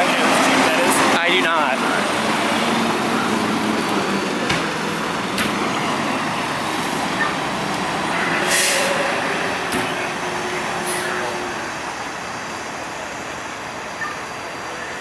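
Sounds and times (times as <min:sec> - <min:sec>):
heavy vehicle traffic noise: 0:00.0 - 0:15.0.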